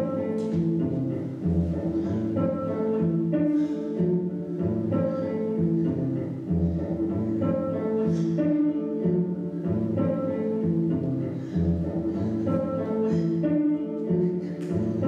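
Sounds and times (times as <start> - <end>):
slow string-like instrumental music: 0.0 - 15.0.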